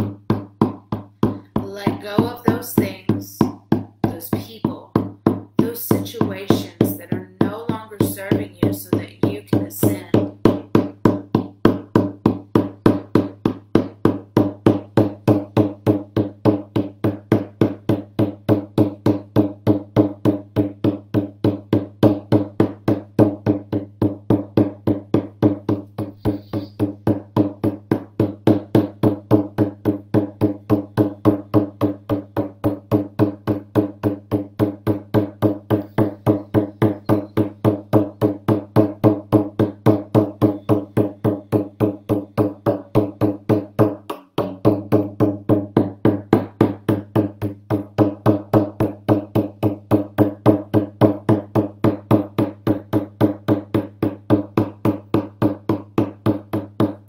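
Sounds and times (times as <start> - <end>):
frame drum beating: 0.0 - 57.0.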